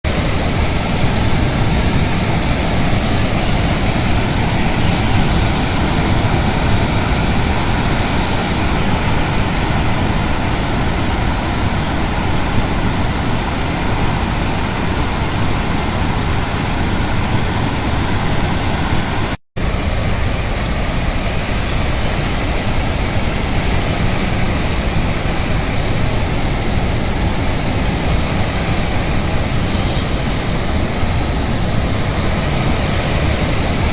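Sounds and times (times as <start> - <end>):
floodwater rushing over dam: 0.0 - 33.9.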